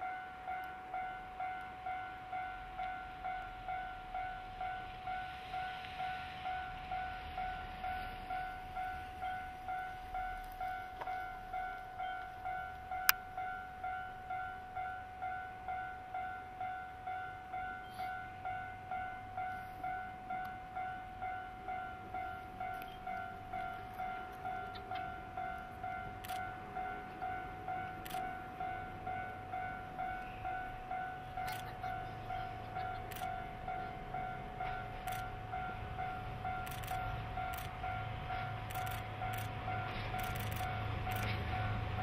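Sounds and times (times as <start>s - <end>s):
level-crossing warning bell ringing: 0.0s - 42.0s.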